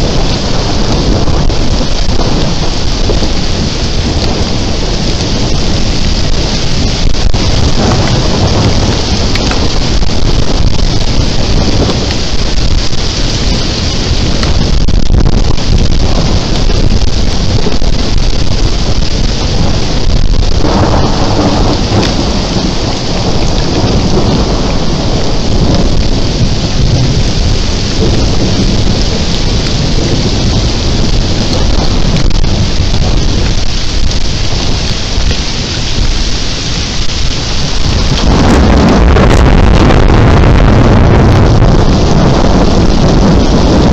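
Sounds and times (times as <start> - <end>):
heavy rain pouring: 0.0 - 43.9
thunder rumbling: 0.0 - 43.9.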